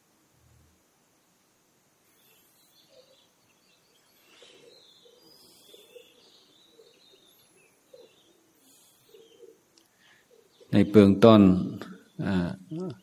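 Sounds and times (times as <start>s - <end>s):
faint birds calling: 2.0s - 13.0s.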